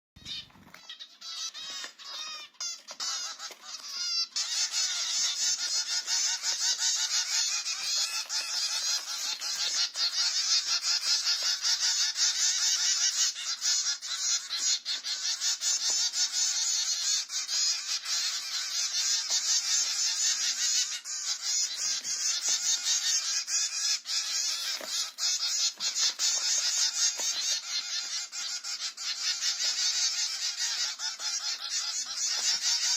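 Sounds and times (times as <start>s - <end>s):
flock of birds chirping: 0.2s - 32.9s.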